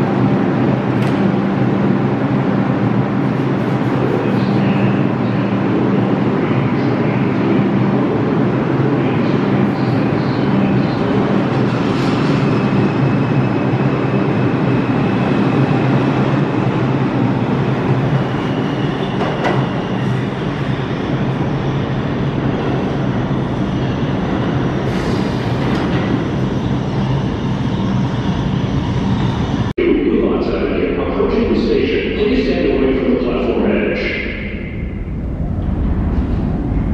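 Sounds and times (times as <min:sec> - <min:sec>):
subway train rumbling: 0:00.0 - 0:36.9.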